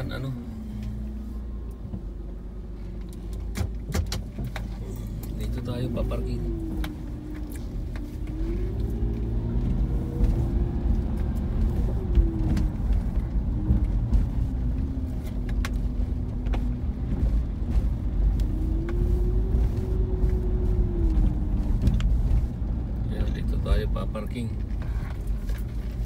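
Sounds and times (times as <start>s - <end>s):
car engine hum: 0.0s - 26.0s
road rumble inside car: 0.0s - 26.0s.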